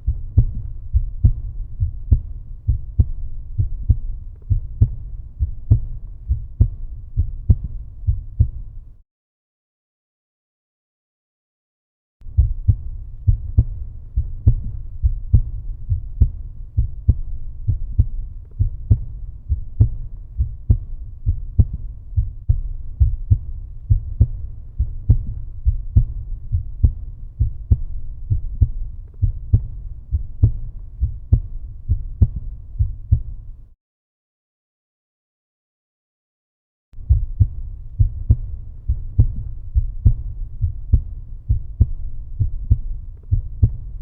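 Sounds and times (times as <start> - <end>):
heartbeat thumps: 0.0 - 9.0, 12.2 - 33.7, 37.0 - 44.0.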